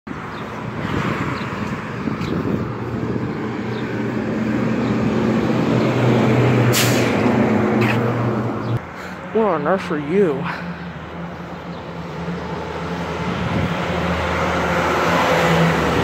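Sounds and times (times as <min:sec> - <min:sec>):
tyre and traffic noise: 0:00.1 - 0:16.0
truck diesel engine drone: 0:00.2 - 0:16.0.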